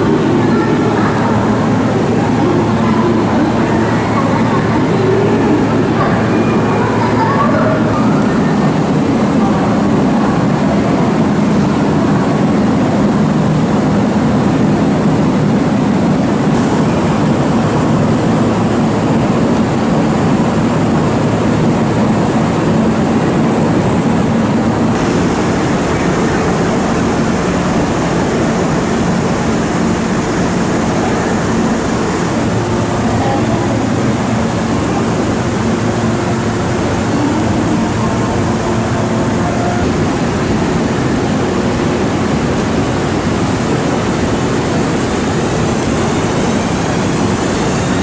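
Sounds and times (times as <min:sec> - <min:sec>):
electric train humming: 0:00.0 - 0:48.0.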